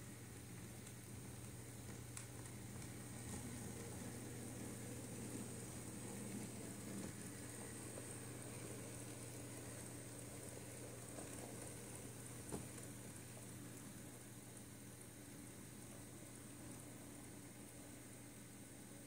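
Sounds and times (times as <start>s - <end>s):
model locomotive hiss and hum: 0.0s - 19.0s.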